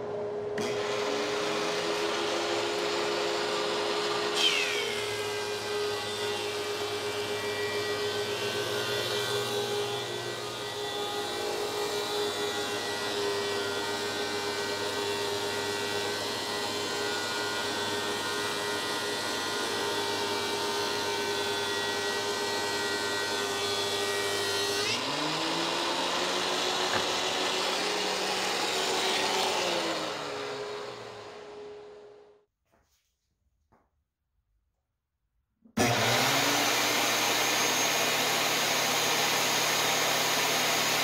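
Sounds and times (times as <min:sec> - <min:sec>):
rising planer tone: 0:00.0 - 0:32.4, 0:35.8 - 0:41.0
thickness planer planing a board: 0:00.6 - 0:32.0, 0:35.8 - 0:41.0.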